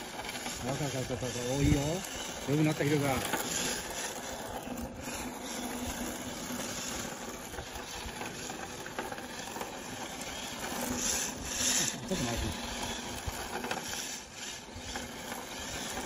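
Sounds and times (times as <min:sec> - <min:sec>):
faint electric motor whine: 0:00.0 - 0:16.0
tyres scrubbing on concrete: 0:00.0 - 0:16.0.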